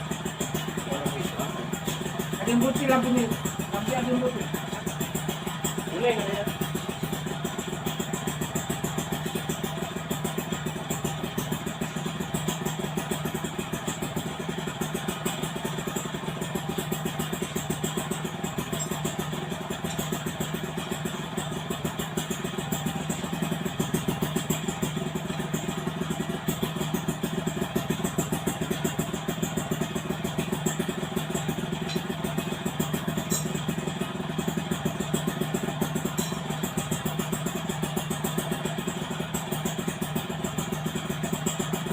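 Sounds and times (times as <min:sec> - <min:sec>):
two-stroke motorcycle engine idling: 0:00.0 - 0:41.9.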